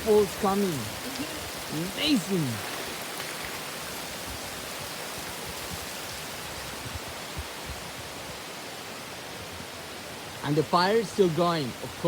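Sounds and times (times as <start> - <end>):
heavy rain and pouring runoff: 0.0 - 12.0.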